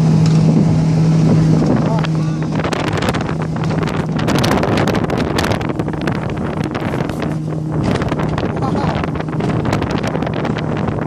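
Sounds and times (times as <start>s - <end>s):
motorboat engine running: 0.0s - 11.0s
wind buffeting microphone: 0.0s - 11.0s.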